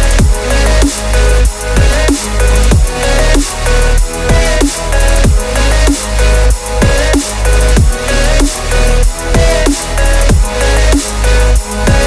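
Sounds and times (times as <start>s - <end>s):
electronic music with heavy bass: 0.0s - 12.0s
falling bass swoop: 0.0s - 12.0s.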